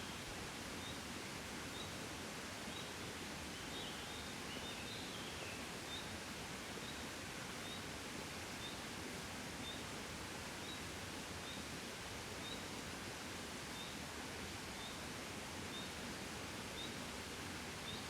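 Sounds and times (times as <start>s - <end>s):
gentle wind: 0.0s - 18.0s.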